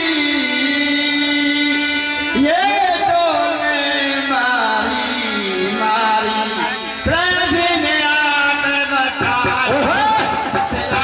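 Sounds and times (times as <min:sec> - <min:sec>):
man singing devotional song: 0:00.0 - 0:11.0
musical accompaniment: 0:00.0 - 0:11.0.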